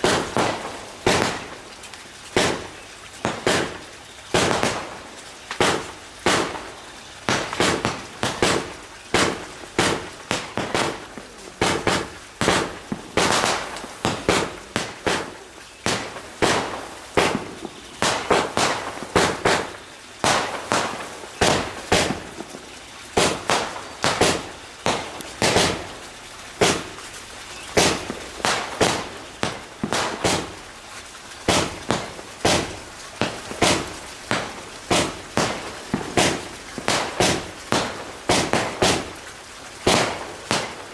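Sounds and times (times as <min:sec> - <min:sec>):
fireworks banging: 0:00.0 - 0:40.9.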